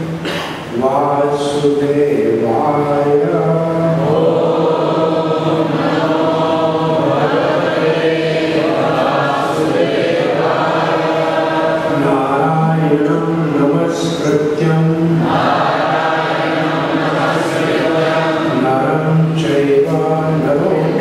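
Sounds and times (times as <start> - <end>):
voices chanting prayers: 0.0 - 21.0.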